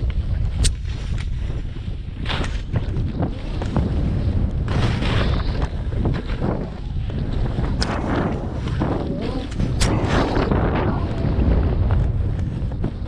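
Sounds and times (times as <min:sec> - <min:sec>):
wind buffeting microphone: 0:00.0 - 0:13.0
skis scraping over snow: 0:00.1 - 0:13.0.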